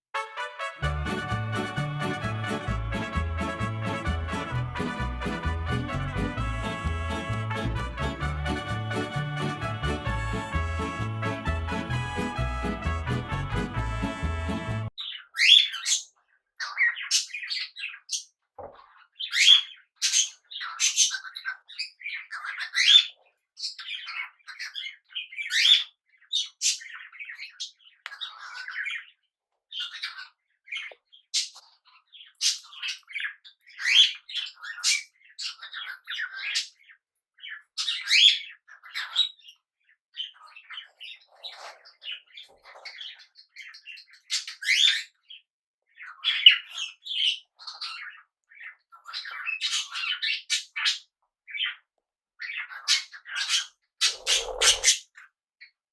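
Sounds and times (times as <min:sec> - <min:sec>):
budgies chirping and squawking: 0:01.0 - 0:55.3.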